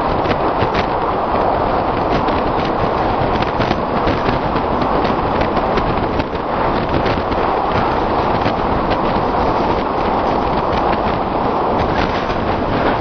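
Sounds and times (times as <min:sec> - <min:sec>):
train wheels rumbling on rails: 0:00.0 - 0:13.0
wind noise: 0:00.0 - 0:13.0.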